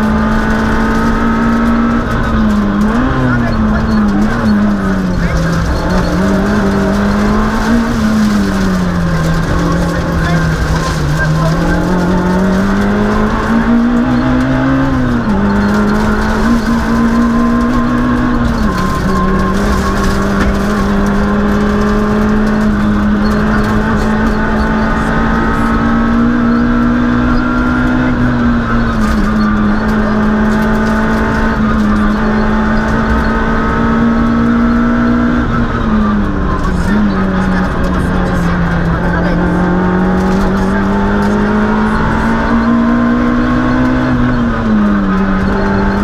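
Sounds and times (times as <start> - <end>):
rally car engine pulling hard: 0.0 - 46.0.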